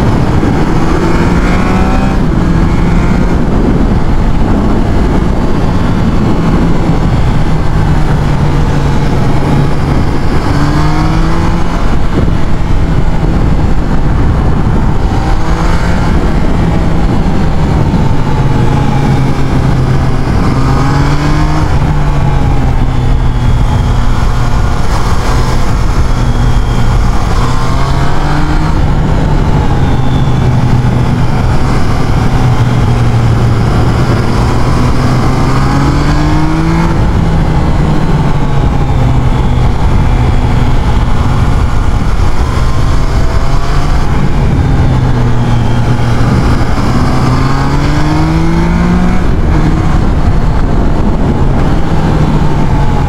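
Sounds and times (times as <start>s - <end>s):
motorcycle engine accelerating: 0.0s - 53.0s
wind rush on microphone: 0.0s - 53.0s.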